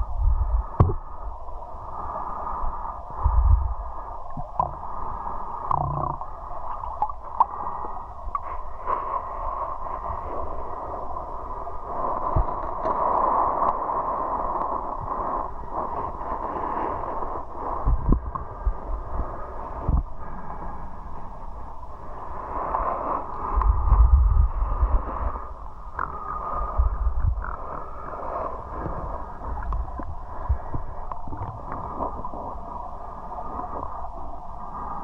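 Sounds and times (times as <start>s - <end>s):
muffled underwater river rush: 0.0s - 35.0s.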